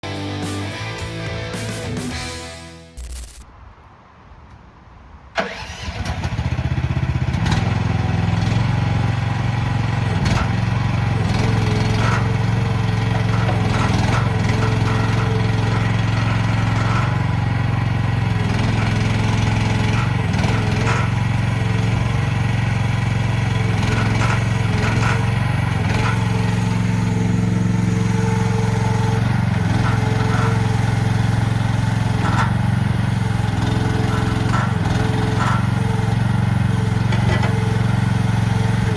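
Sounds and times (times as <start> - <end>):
diesel engine starting and running: 5.3 - 38.9.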